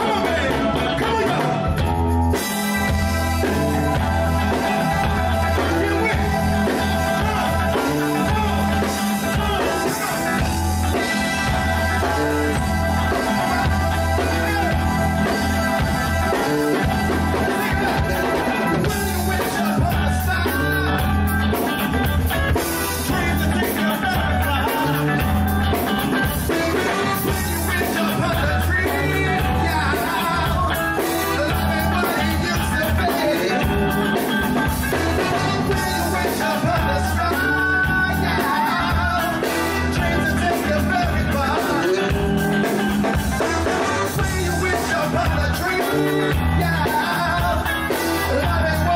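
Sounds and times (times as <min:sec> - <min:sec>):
person singing: 0:00.0 - 0:48.9
soul band playing: 0:00.0 - 0:48.9.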